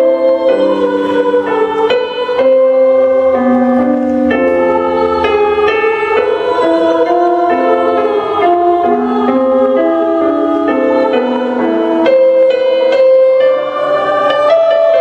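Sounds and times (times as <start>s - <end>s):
mixed choir singing held chords: 0.0s - 15.0s.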